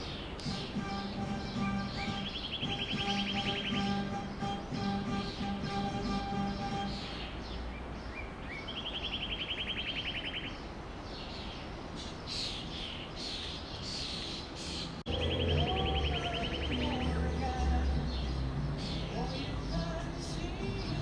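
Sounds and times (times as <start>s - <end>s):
bird trilling: 0.0s - 10.6s, 12.0s - 21.0s
high bird chirps: 0.0s - 21.0s.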